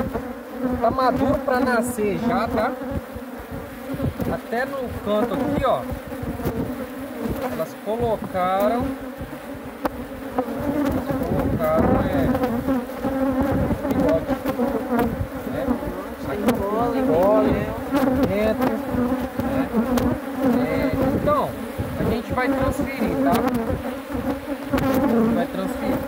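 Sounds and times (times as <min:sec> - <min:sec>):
bee flying past whine: 0:00.0 - 0:26.0
bees buzzing drone: 0:00.0 - 0:26.0
light clicks of hive frames: 0:02.7 - 0:26.0.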